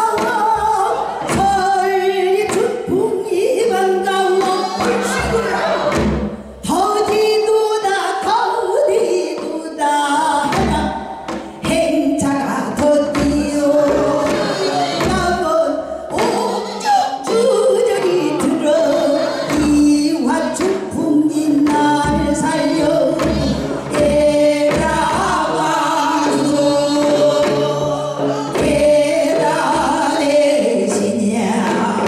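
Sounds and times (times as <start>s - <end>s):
women singing folk song: 0.0s - 32.0s.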